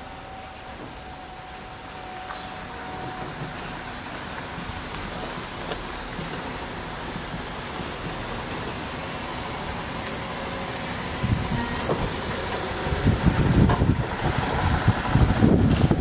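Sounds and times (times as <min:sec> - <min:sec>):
tyres hissing on gravel: 0:00.1 - 0:15.8.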